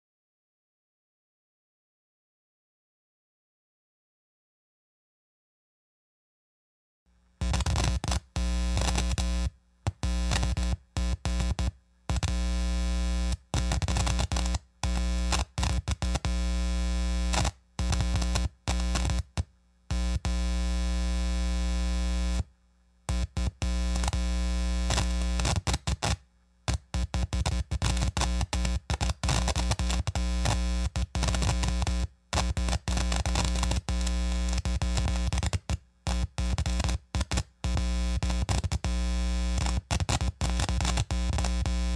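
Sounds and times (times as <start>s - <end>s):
electrical hum with static: 7.1s - 41.9s
speaker buzzing and crackling: 7.4s - 22.5s, 23.1s - 41.9s.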